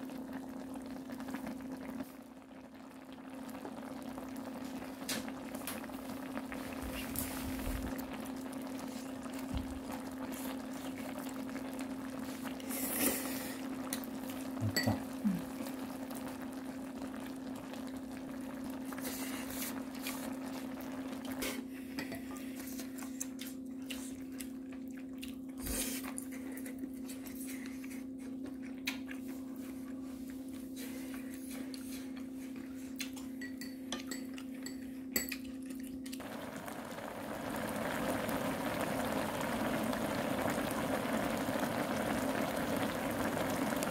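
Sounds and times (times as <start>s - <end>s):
stew bubbling in a pot: 0.0s - 43.9s.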